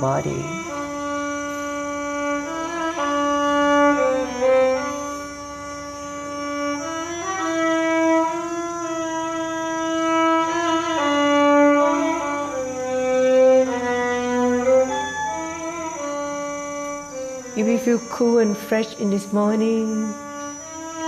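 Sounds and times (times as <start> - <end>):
violin playing slow melody: 0.0 - 21.0.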